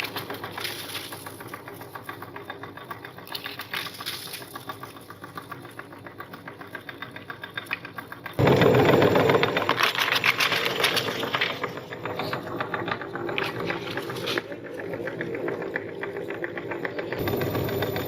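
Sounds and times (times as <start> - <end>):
electric meat grinder ticking: 0.0 - 18.0.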